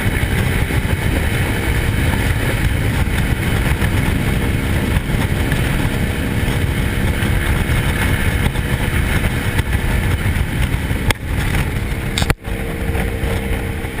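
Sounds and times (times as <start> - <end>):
motorcycle engine running: 0.0 - 14.0
road noise: 0.0 - 14.0.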